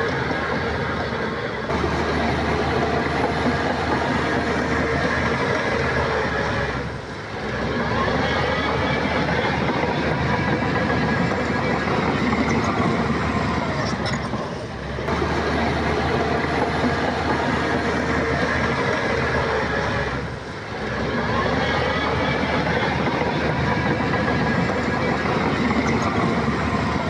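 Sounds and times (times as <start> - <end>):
diesel earthmoving machinery engine: 0.0 - 27.0.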